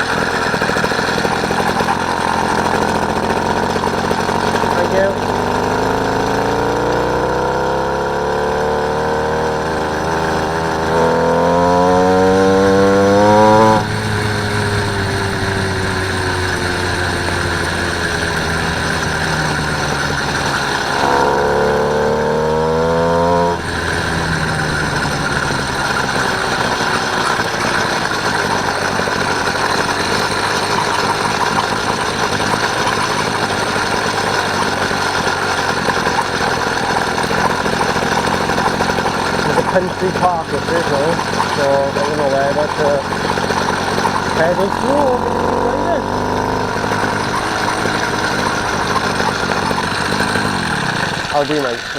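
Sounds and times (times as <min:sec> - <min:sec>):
motorised bicycle engine revving: 0:00.0 - 0:51.9.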